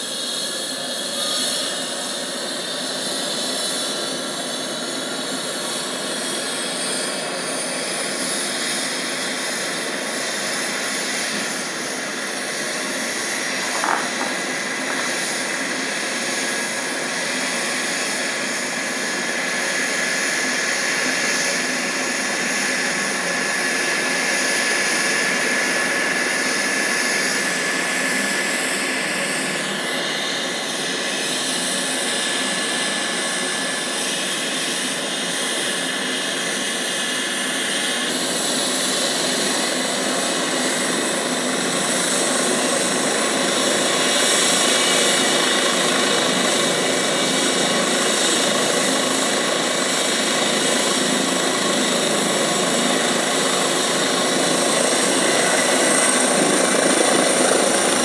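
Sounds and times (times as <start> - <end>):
helicopter turbine and rotor: 0.0 - 58.0.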